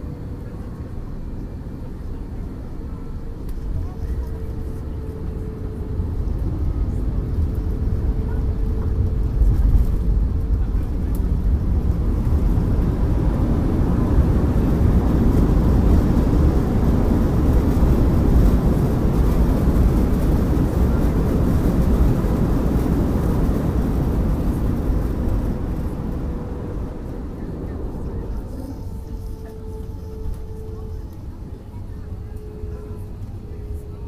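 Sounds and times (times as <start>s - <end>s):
aircraft cabin rushing rumble: 0.0s - 34.0s.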